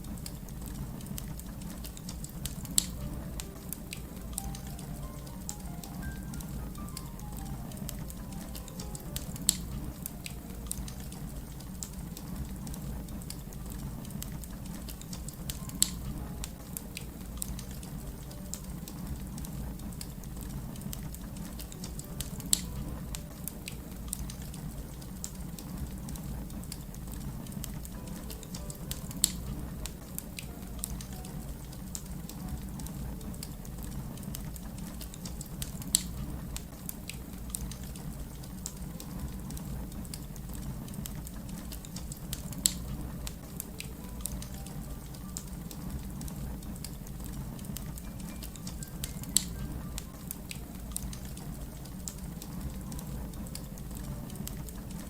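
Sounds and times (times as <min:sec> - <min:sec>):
fire crackling: 0:00.0 - 0:55.0
sharp pops of fire: 0:00.1 - 0:31.3, 0:31.9 - 0:44.8.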